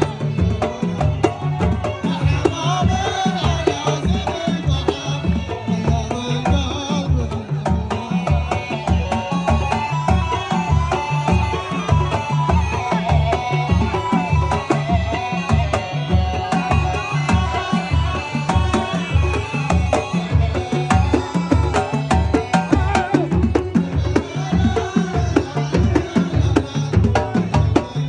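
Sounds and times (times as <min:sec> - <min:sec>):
deep drums beating: 0:00.0 - 0:28.0.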